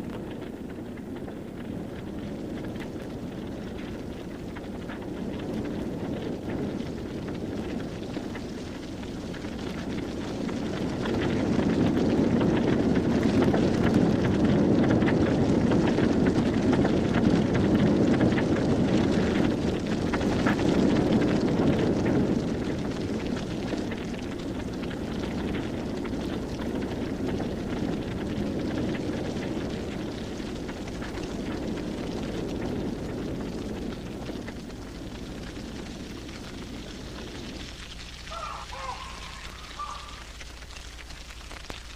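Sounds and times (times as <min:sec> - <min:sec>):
grass fire roaring and crackling: 0:00.0 - 0:41.9.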